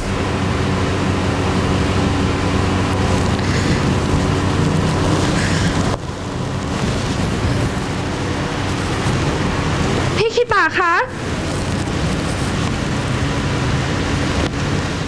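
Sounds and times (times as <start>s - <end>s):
low hum: 0.0s - 15.0s
steady rushing noise: 0.0s - 15.0s.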